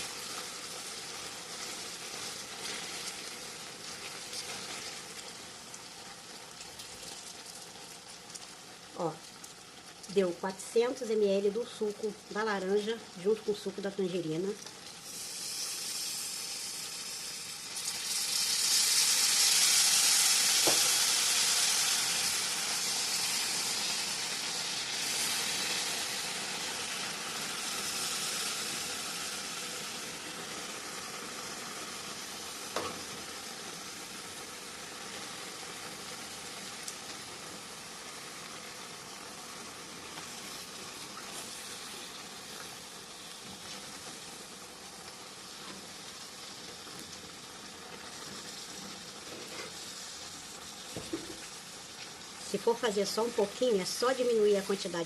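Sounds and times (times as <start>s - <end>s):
juice sizzling in hot sugar: 0.0s - 55.0s.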